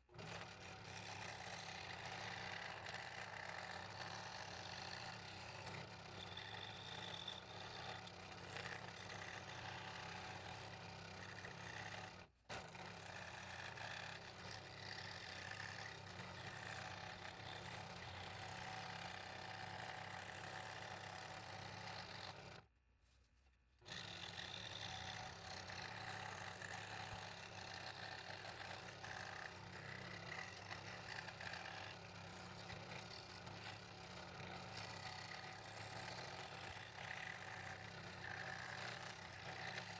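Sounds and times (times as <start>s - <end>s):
scroll saw cutting wood: 0.1s - 22.6s, 23.8s - 39.9s.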